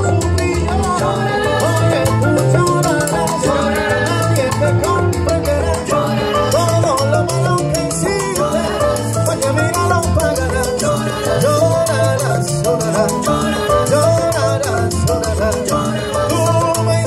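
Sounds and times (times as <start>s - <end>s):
salsa music over loudspeakers: 0.0s - 17.0s.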